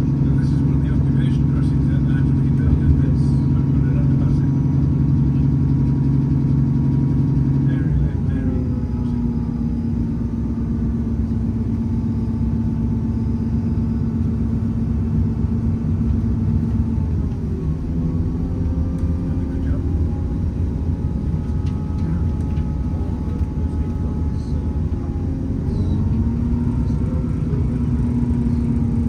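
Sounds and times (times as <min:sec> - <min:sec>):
train engine running: 0:00.0 - 0:29.0
train rumble: 0:00.0 - 0:29.0.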